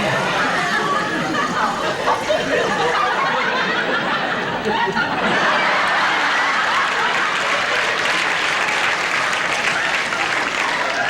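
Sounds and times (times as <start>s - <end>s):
audience applause: 0.0s - 11.0s
audience laughing: 0.0s - 11.0s.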